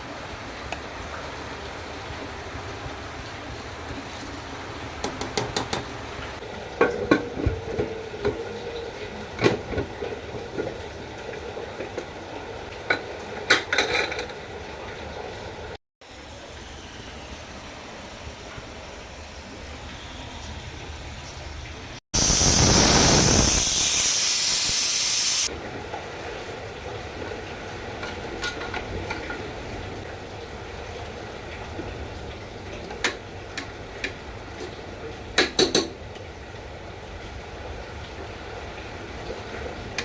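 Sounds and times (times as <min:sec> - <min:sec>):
rain and rushing water: 0:00.0 - 0:40.0.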